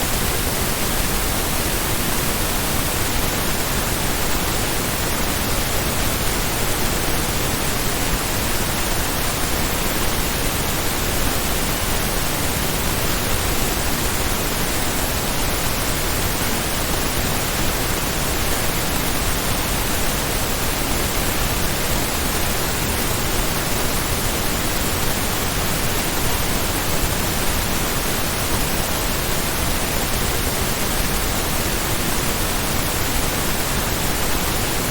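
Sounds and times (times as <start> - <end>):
pink noise hiss: 0.0 - 34.9.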